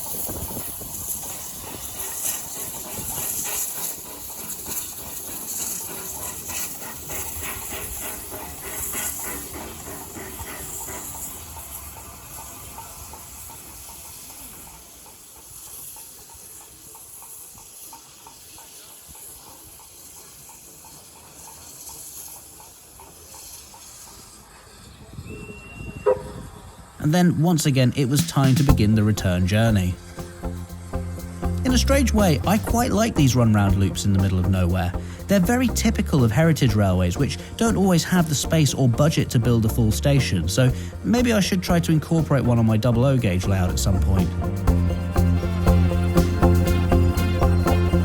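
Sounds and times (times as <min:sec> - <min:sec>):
locomotive puffs: 0:00.0 - 0:48.0
steam locomotive hissing: 0:00.0 - 0:48.0.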